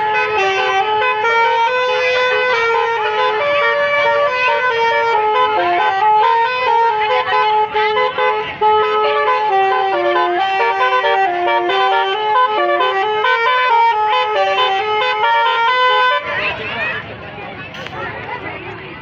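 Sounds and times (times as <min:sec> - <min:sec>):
multi-tone bus horn melody: 0:00.0 - 0:16.8.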